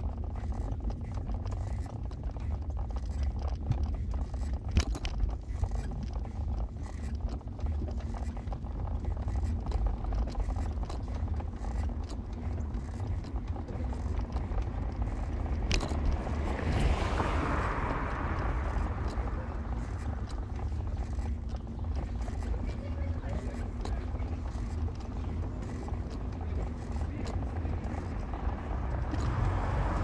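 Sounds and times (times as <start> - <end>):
small knocks and rattles: 0.0 - 30.0
vehicle road rumble: 0.0 - 30.0.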